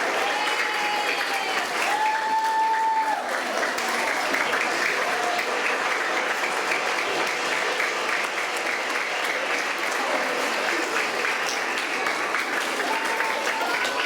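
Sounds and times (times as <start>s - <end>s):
faint crowd voices: 0.0s - 14.0s
many hands clapping: 0.0s - 14.0s.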